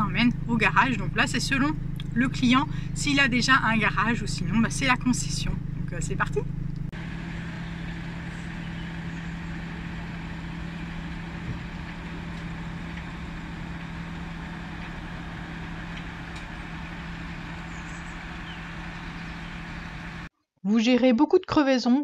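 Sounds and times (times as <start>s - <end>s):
truck engine idling: 0.0s - 20.3s.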